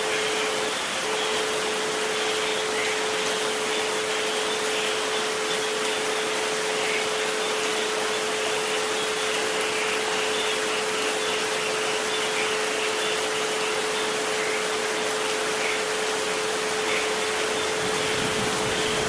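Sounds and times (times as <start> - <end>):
rain-like hiss: 0.0 - 19.0.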